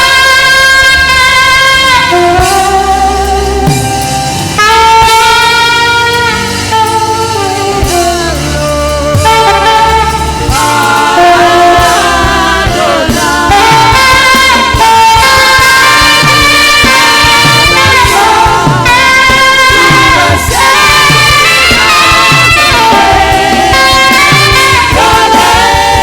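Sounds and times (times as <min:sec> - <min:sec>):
backing band with bass line: 0:00.0 - 0:26.0
saxophone playing gospel melody: 0:00.0 - 0:26.0.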